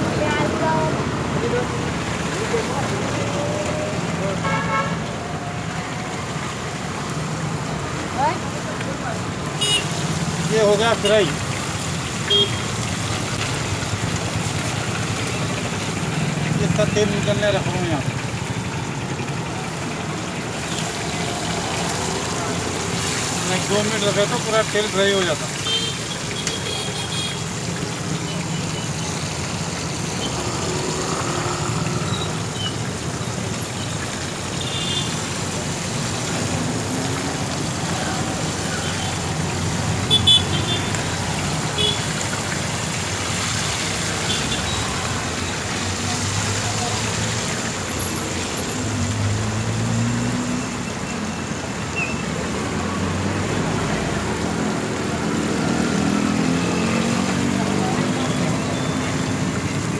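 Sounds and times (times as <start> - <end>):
fish frying in oil: 0.0 - 59.9
traffic running past: 0.0 - 59.9.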